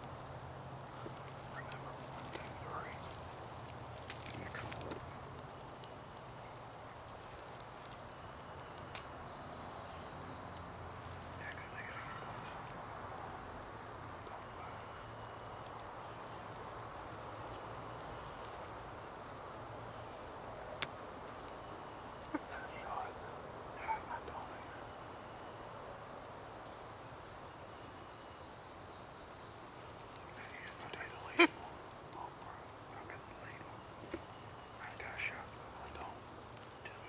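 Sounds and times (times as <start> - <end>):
small bird chipping: 0.0 - 26.2, 29.0 - 37.0
faint steady hiss: 0.0 - 37.0.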